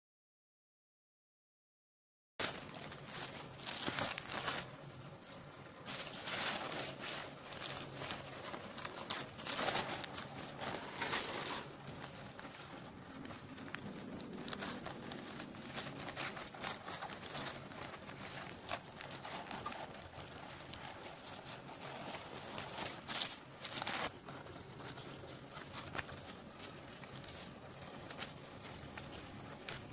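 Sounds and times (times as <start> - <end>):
plastic bag rustling and crinkling: 2.4 - 29.9.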